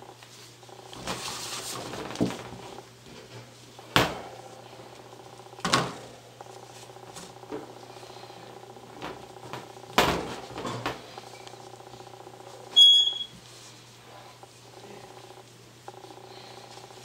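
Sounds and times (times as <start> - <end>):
rustling: 0.1 - 17.0.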